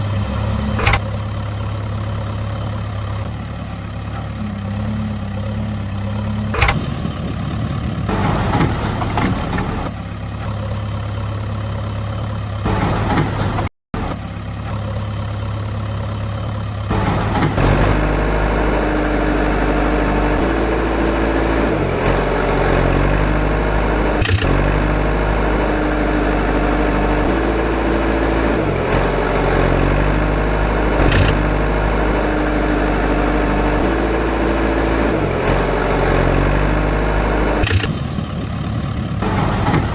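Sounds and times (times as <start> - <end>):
deeper engine hum: 0.0 - 39.9
heavy machinery engine idling: 0.0 - 39.9.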